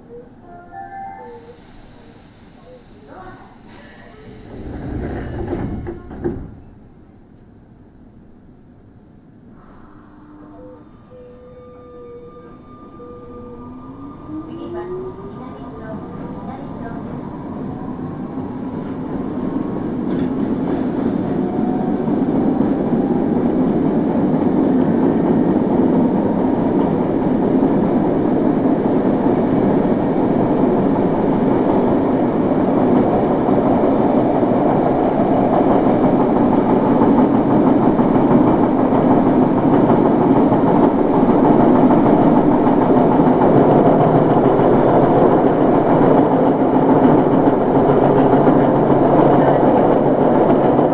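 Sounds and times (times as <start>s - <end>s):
subway car running noise: 0.0s - 50.9s.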